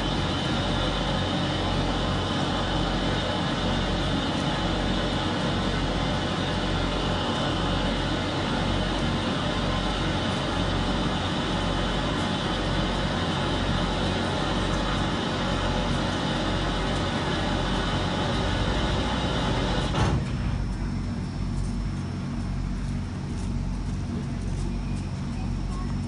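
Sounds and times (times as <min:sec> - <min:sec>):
steam locomotive hissing: 0:00.0 - 0:25.7
low mechanical hum: 0:00.0 - 0:26.0.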